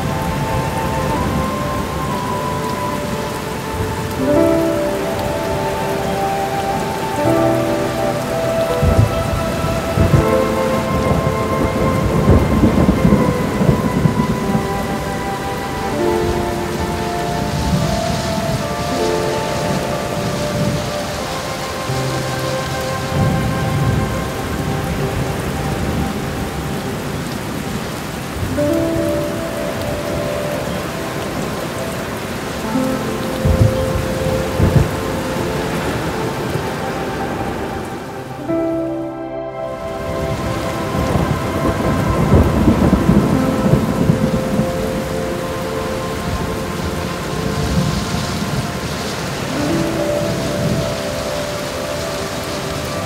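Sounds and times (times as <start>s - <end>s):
low thunder rumble: 0.0s - 53.0s
steady rain: 0.0s - 53.0s.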